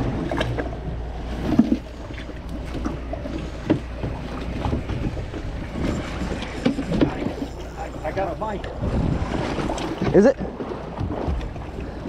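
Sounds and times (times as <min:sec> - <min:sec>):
boat engine idling: 0:00.0 - 0:12.0
water: 0:00.0 - 0:12.0
wind: 0:00.0 - 0:12.0.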